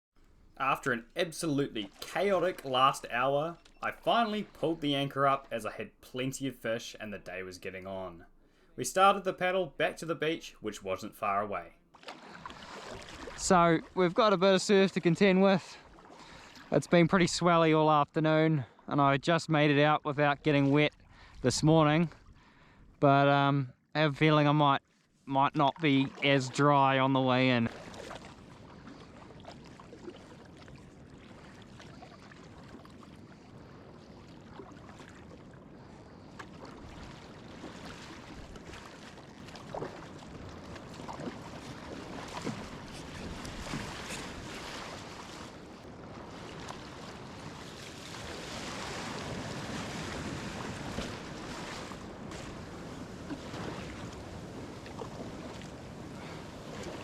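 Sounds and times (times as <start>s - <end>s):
surf washing around kayak: 0.5s - 17.1s, 25.6s - 57.0s
water splashes: 0.5s - 17.5s, 25.4s - 57.0s.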